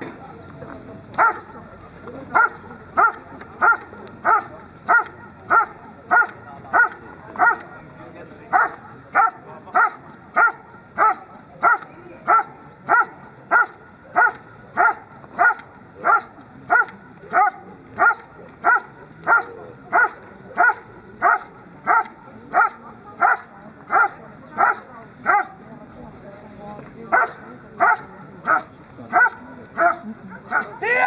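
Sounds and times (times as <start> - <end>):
dog barking: 1.2 - 1.5, 2.4 - 7.7, 8.5 - 25.6, 27.1 - 30.7.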